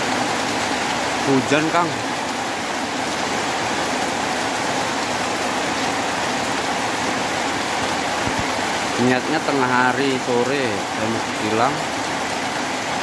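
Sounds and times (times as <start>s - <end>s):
heavy rain on plants and paving: 0.0s - 13.0s.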